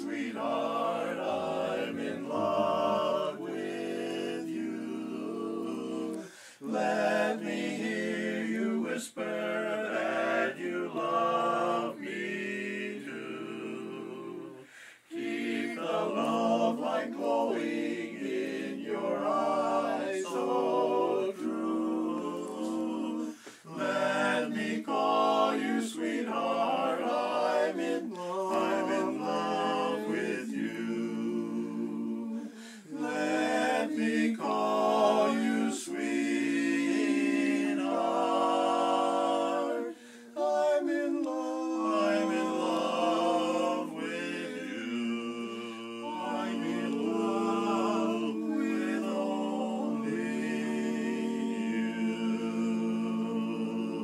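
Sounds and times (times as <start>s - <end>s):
men singing in close harmony: 0.0s - 54.0s.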